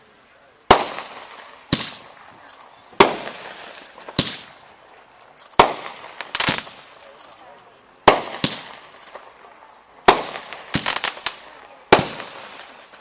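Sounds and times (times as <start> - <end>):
firework crackles: 0.0 - 13.0
firework reports: 0.0 - 13.0.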